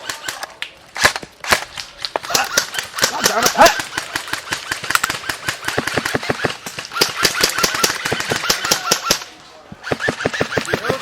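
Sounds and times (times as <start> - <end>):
airsoft gun firing full auto: 0.0 - 11.0.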